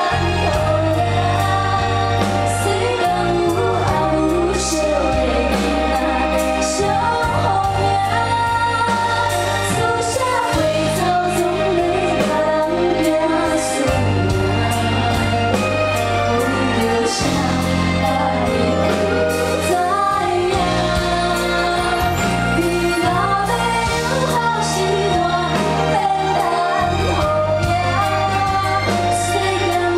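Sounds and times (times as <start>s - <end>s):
band accompaniment: 0.0s - 29.9s
women singing in harmony: 0.0s - 29.9s.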